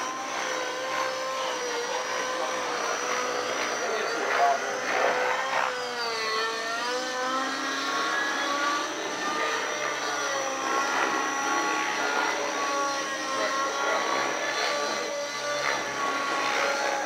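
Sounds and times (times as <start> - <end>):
model helicopter rotors whining: 0.0 - 17.0
steady high whine: 0.0 - 17.0.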